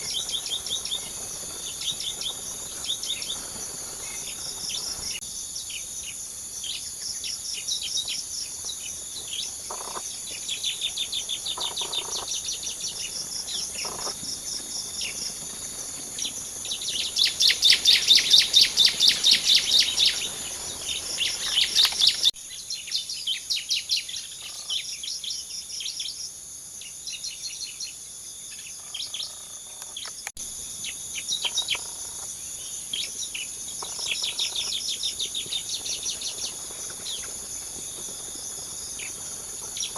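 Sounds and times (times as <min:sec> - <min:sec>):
insects whining: 0:00.0 - 0:39.9
songbirds chirping: 0:00.0 - 0:39.9.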